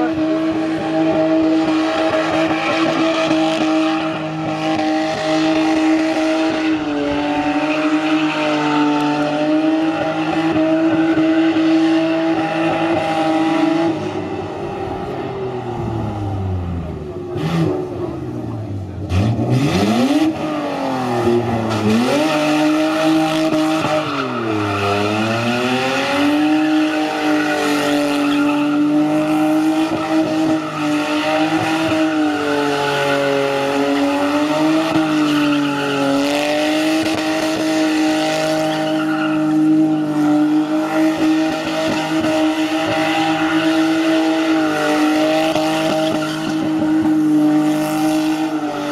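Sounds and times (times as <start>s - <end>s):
car engine revving high: 0.0s - 48.9s.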